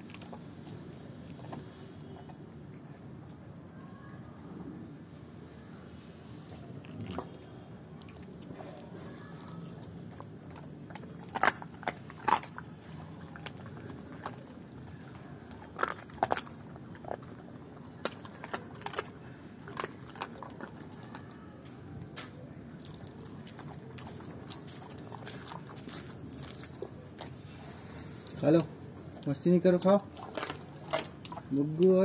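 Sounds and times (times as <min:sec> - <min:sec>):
dog crunching on bones: 0:00.0 - 0:03.3, 0:06.4 - 0:32.0.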